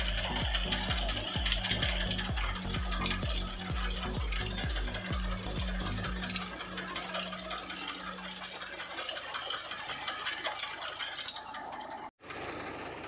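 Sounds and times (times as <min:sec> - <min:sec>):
potato digger clattering: 0:00.0 - 0:13.0.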